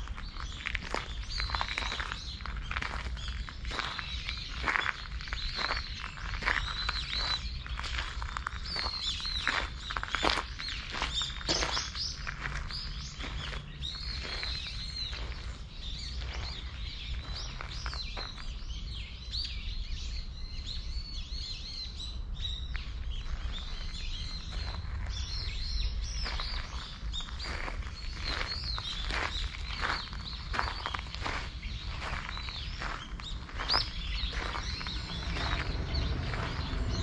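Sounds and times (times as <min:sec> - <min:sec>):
footsteps on gravel: 0:00.0 - 0:18.7, 0:23.1 - 0:37.0
small birds chirping: 0:00.0 - 0:37.0.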